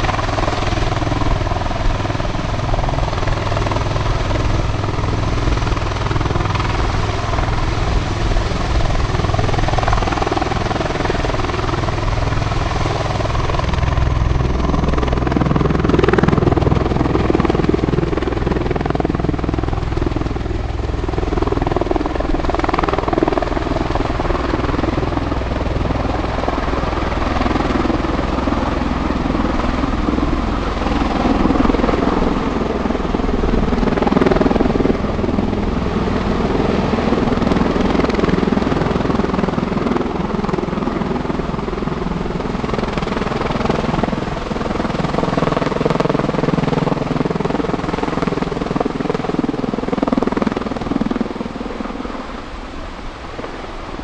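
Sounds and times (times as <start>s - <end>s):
thunderous rotor noise: 0.0s - 54.0s.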